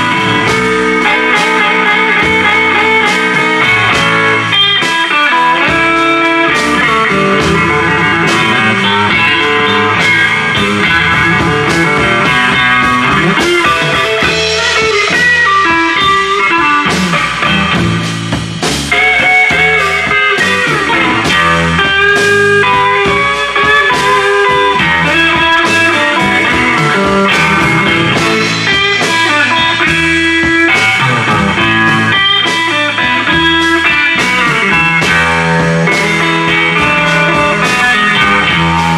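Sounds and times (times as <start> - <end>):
blues trio playing: 0.0 - 38.9
lead guitar: 0.0 - 38.9.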